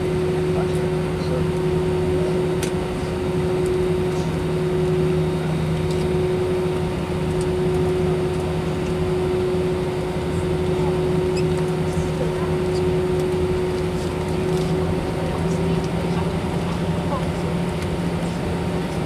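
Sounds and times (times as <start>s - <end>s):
cabin air system hum: 0.0s - 19.0s
jet engines at low thrust: 0.0s - 19.0s.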